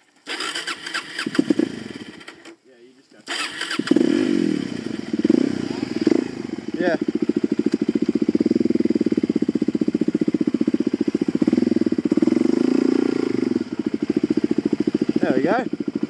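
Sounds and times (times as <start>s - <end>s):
motorcycle engine running at low revs: 1.0s - 2.3s, 3.8s - 16.0s.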